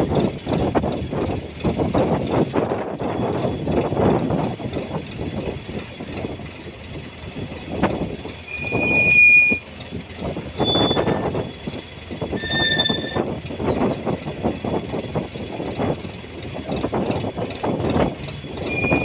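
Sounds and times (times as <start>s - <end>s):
wind on microphone: 0.0s - 9.6s, 10.2s - 19.0s.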